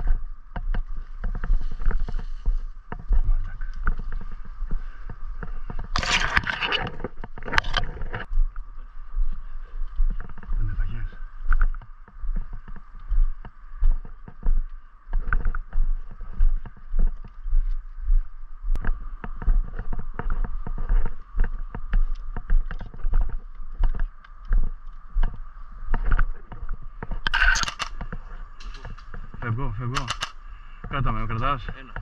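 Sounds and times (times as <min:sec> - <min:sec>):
clothing and branches rustling: 0:00.0 - 0:32.0
footsteps on dirt trail: 0:00.0 - 0:32.0.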